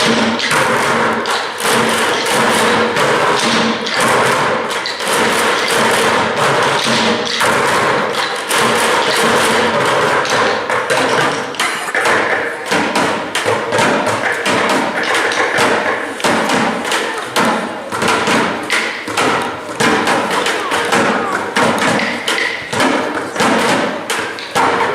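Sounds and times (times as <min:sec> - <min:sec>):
rapid irregular thumps and taps: 0:00.0 - 0:24.9.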